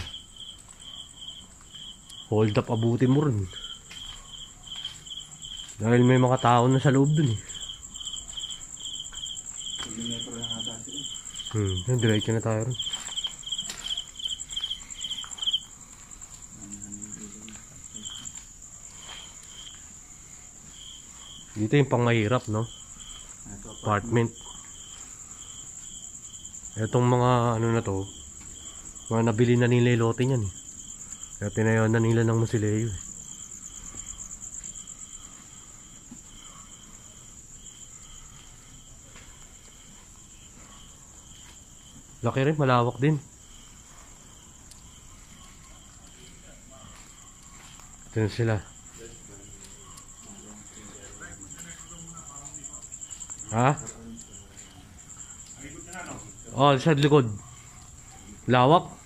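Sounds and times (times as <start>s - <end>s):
crickets trilling: 0.0s - 59.0s
low cricket chirp: 0.0s - 59.0s.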